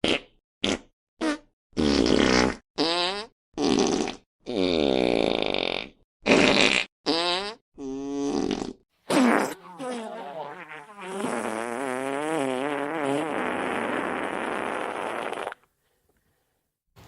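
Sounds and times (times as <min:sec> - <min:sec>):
fart sound effects: 0:00.0 - 0:15.7.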